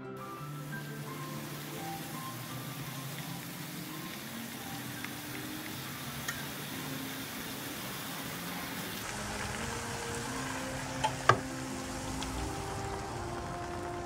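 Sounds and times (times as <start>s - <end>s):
food sizzling in frying pan: 0.2s - 14.0s.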